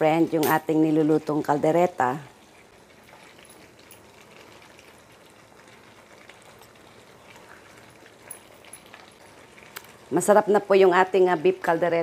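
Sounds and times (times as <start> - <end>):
stew simmering: 0.0 - 12.0.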